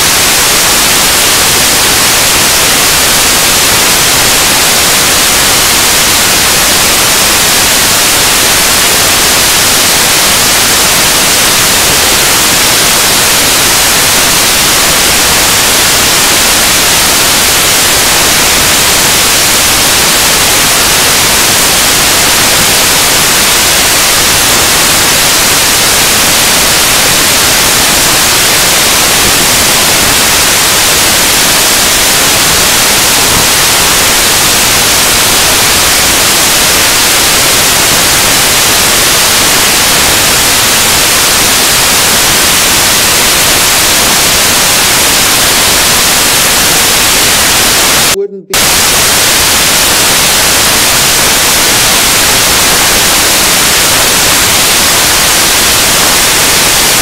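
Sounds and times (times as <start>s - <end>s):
loud white noise hiss: 0.0s - 57.0s.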